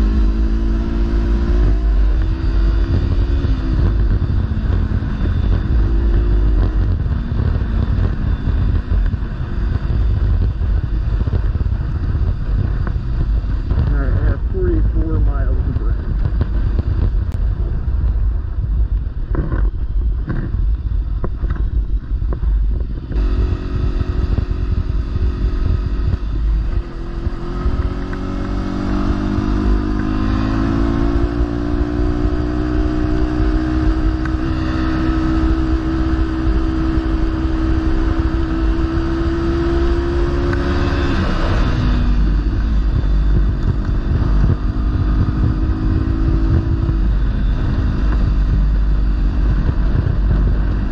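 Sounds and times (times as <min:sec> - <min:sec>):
motorcycle engine running: 0:00.0 - 0:50.9
wind rumble on microphone: 0:00.0 - 0:50.9.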